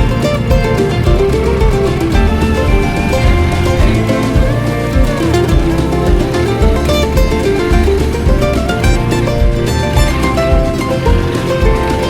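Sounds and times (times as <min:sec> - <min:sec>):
plucked strings over a steady beat: 0:00.0 - 0:12.0.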